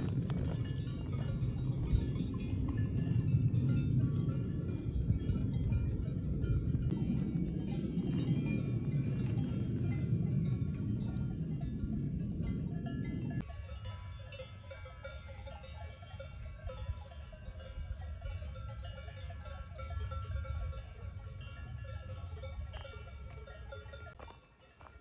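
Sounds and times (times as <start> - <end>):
low rumble: 0.0 - 24.2
cowbells clanking: 0.0 - 25.0.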